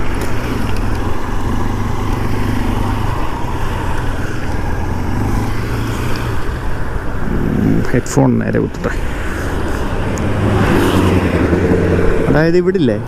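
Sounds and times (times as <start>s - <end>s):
motorcycle engine running: 0.0s - 8.0s, 9.2s - 12.7s
road noise: 0.0s - 13.0s.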